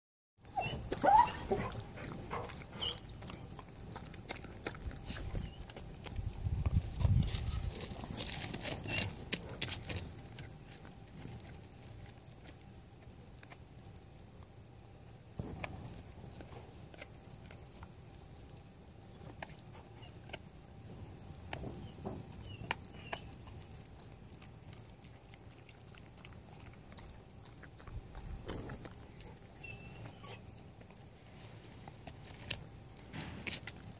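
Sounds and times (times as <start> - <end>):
dog chewing a bone: 0.4 - 33.9.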